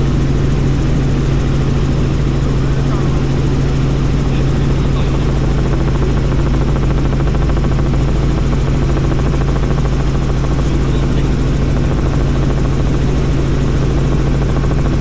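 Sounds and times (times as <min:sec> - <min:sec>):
helicopter rotor and engine noise: 0:00.0 - 0:15.0.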